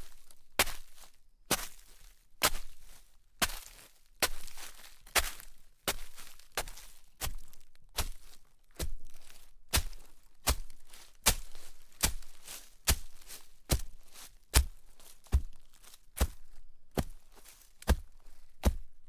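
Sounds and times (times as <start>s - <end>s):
footsteps crunching in snow: 0.0s - 19.0s.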